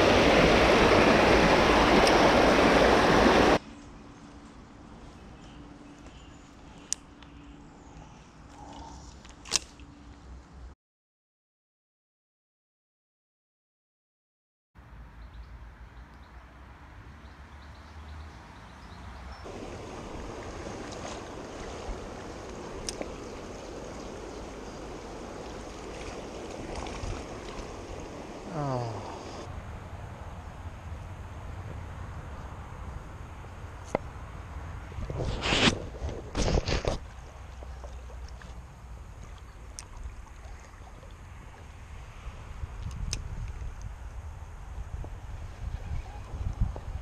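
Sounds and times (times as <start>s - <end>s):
river water running: 0.0s - 10.0s, 14.9s - 47.0s.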